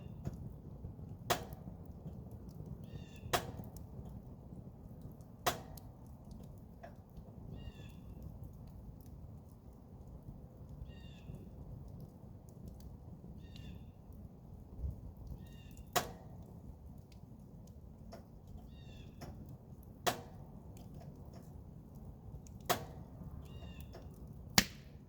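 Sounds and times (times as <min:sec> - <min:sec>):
burning wood popping: 0:00.0 - 0:25.0
campfire burning: 0:00.0 - 0:25.0.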